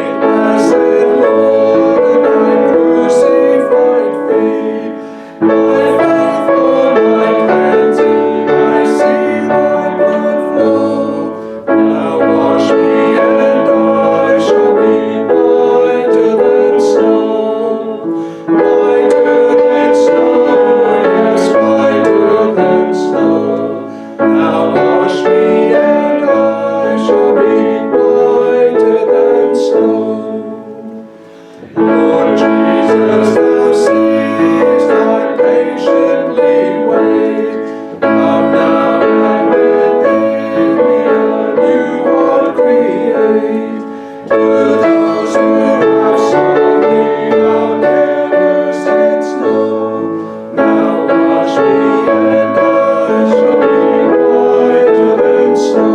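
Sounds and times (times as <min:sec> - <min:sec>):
hymn played on piano: 0:00.0 - 0:55.9.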